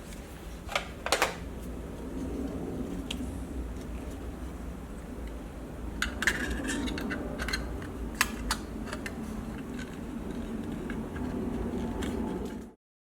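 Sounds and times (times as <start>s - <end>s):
low hum: 1.2s - 12.8s.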